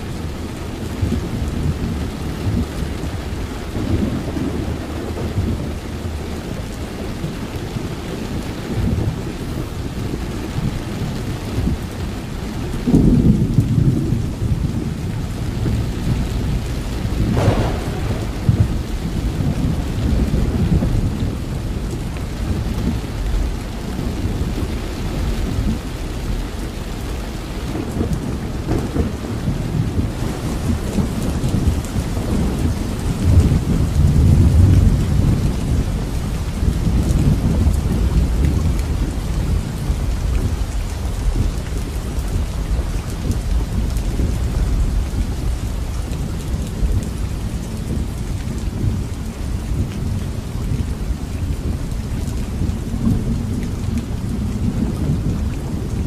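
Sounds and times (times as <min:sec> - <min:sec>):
heavy rain: 0:00.0 - 0:56.0
rolling thunder: 0:00.0 - 0:56.0.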